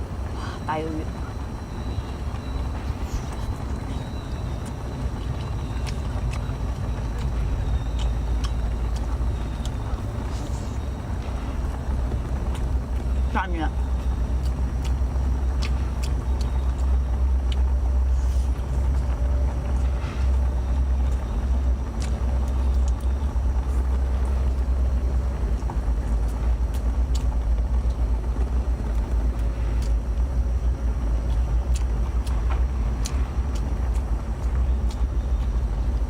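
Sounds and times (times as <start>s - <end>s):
steady low rumble: 0.0s - 36.0s
faint scattered clicks: 1.3s - 18.0s, 18.6s - 36.0s.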